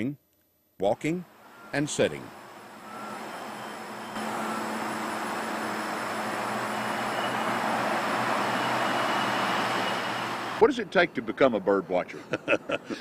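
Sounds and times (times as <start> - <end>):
road traffic hiss: 0.9 - 11.6.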